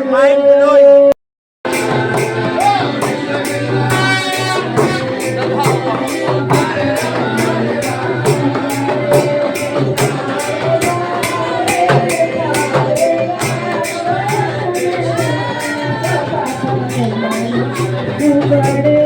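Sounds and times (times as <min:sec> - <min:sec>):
sharp percussion beat: 0:01.6 - 0:19.0
person singing: 0:01.7 - 0:19.0.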